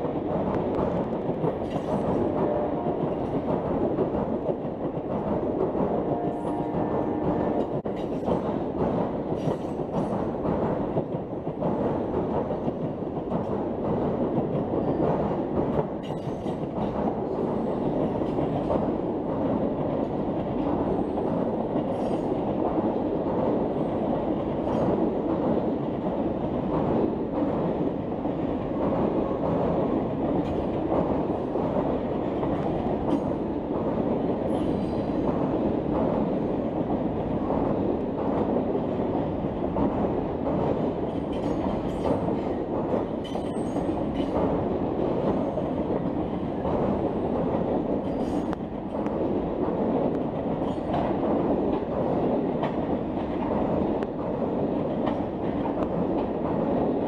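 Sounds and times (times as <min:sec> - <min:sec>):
steel wheels rumbling on rail: 0:00.0 - 0:57.0
train wheel clicks: 0:00.0 - 0:57.0.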